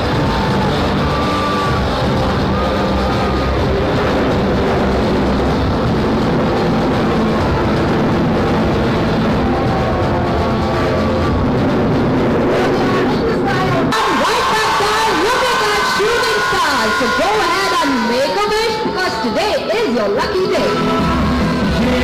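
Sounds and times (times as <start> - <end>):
music: 0.0 - 22.0.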